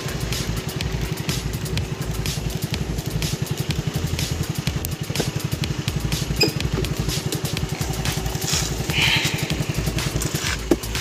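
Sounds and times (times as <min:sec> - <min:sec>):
small motorcycle engine idling: 0:00.0 - 0:11.0.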